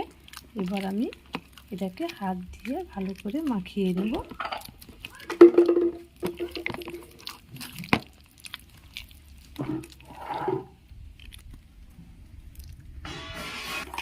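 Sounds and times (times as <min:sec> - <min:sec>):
hands squishing fruit pulp: 0:00.0 - 0:13.0.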